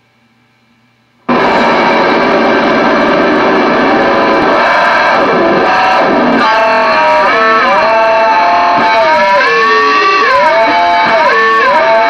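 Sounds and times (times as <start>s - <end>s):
distorted electric guitar: 1.3s - 12.0s.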